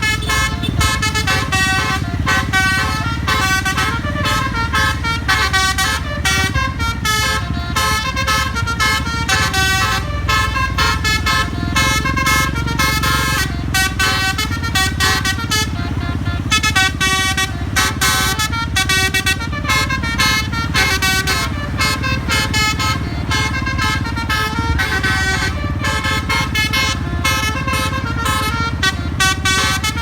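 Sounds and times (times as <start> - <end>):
bus air horn playing a tune: 0.0 - 30.0
bus engine rumble: 0.0 - 30.0.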